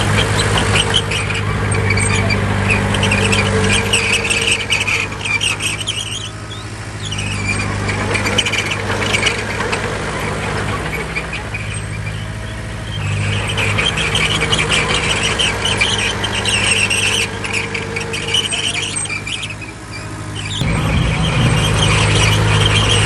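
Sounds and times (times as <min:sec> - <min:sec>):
bulldozer diesel engine running: 0:00.0 - 0:23.0
steel tracks squealing and clanking: 0:00.0 - 0:23.0.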